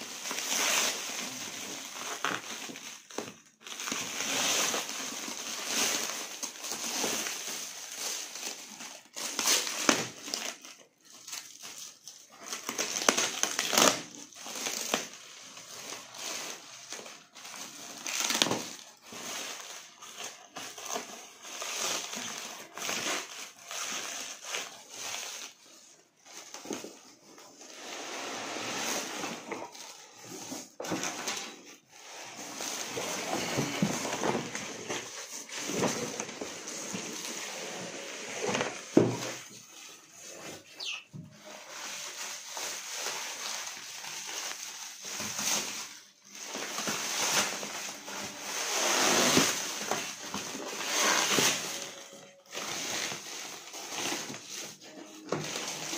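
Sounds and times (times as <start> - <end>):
plastic wrap and foam rustling: 0.0 - 55.9.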